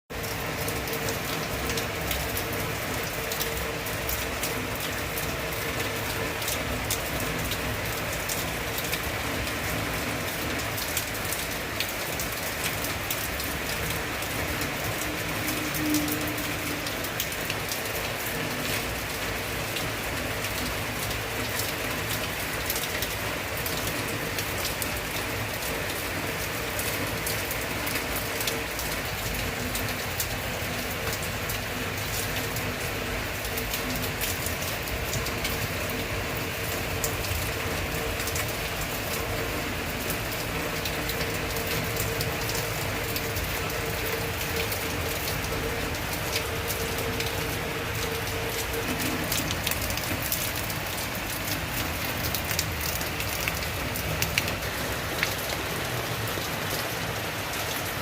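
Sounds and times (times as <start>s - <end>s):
heavy rain pattering: 0.1s - 58.0s.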